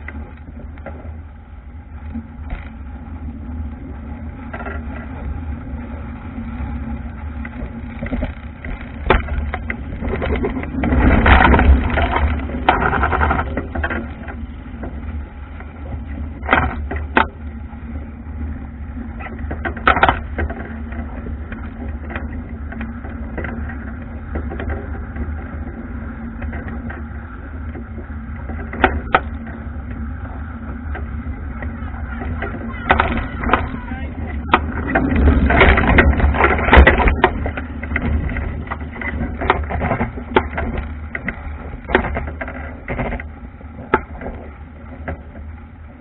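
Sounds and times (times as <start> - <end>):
deep rumble: 0.0 - 46.0
water splashing along wooden hull: 0.0 - 46.0
wind buffeting microphone: 0.0 - 46.0.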